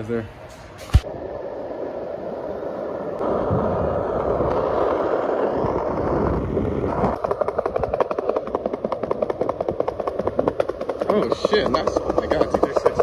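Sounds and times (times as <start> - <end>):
rolling along a street: 0.0 - 13.0
wind rushing: 0.8 - 13.0.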